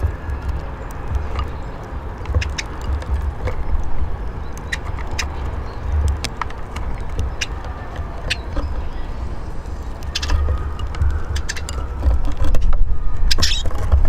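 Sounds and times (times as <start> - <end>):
birds pecking seed on wood: 0.0 - 14.0
steady low rumble: 0.0 - 14.0.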